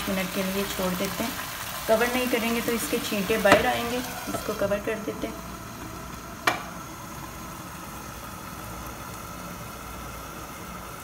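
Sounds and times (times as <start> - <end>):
sauce simmering in a pan: 0.0 - 11.0.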